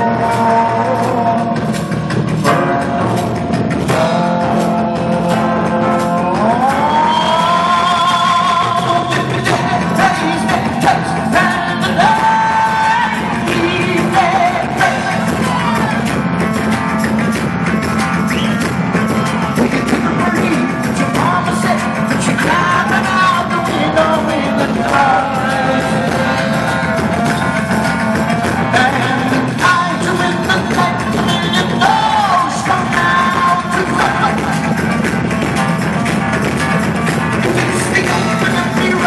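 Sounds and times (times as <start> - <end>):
man singing: 0.0 - 16.8, 18.2 - 35.3, 37.3 - 39.0
live band playing: 0.0 - 39.0.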